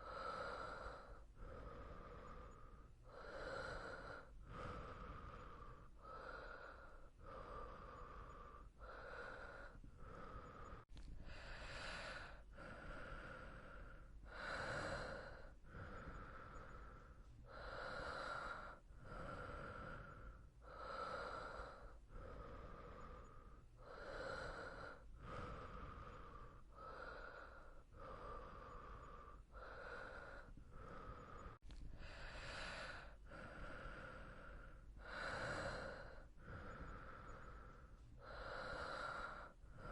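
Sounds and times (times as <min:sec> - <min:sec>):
person breathing in and out: 0:00.0 - 0:39.9.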